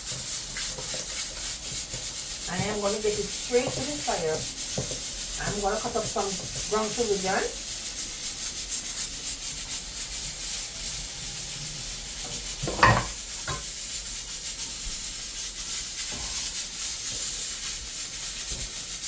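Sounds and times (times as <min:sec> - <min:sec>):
pot hissing on stove: 0:00.0 - 0:19.0.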